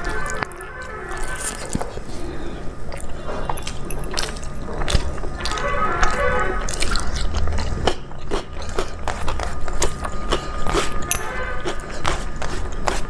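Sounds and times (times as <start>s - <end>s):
crunchy bites: 0.0s - 13.0s
person chewing food: 0.0s - 13.0s.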